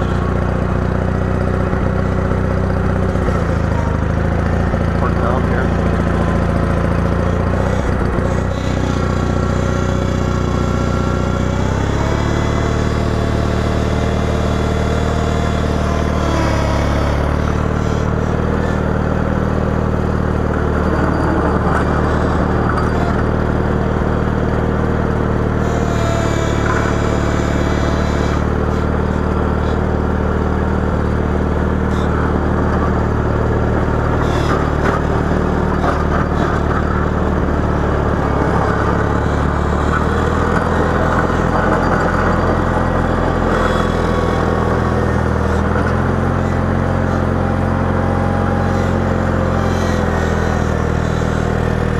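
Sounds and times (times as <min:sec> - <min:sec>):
garden tractor engine running: 0:00.0 - 0:51.9.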